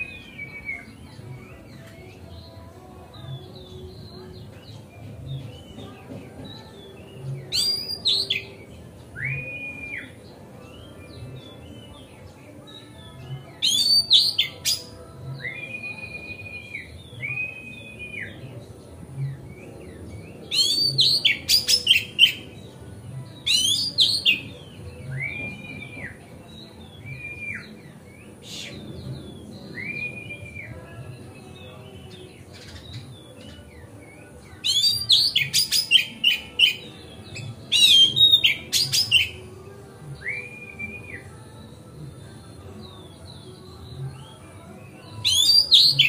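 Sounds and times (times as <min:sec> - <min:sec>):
bird whistling song: 0:00.0 - 0:22.7, 0:23.3 - 0:39.6, 0:40.2 - 0:46.0.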